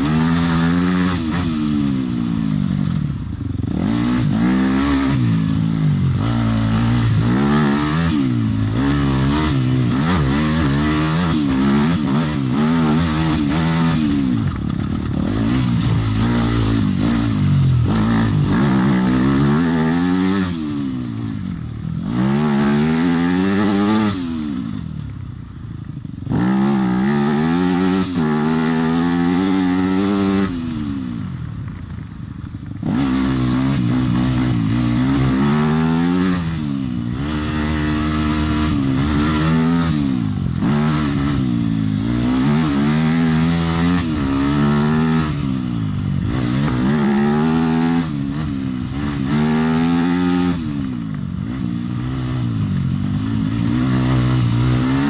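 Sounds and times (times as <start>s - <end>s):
dirt bike engine revving: 0.0s - 25.0s, 26.0s - 31.6s, 32.4s - 55.0s.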